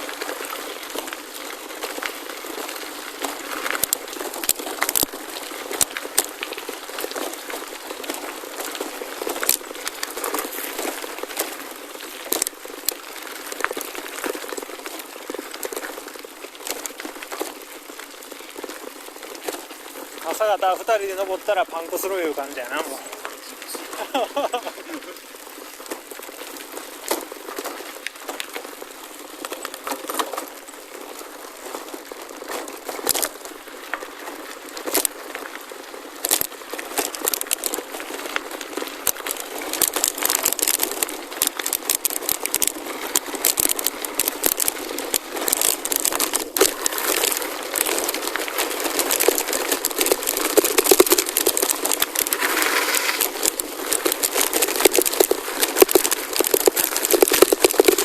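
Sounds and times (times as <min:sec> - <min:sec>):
bike tyres rolling over gravel: 0:00.0 - 0:58.0.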